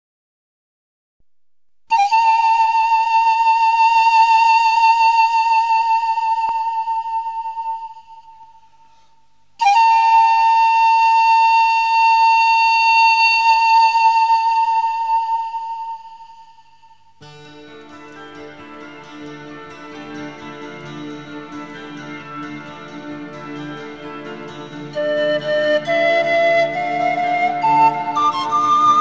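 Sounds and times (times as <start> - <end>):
solo flute long notes: 1.9 - 17.1, 20.0 - 29.0.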